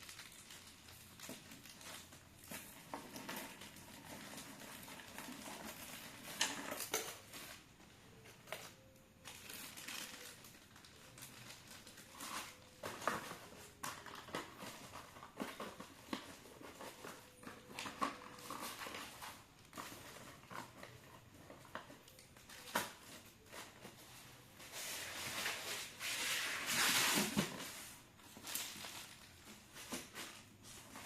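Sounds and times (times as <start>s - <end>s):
packaging rustling: 0.0s - 31.0s.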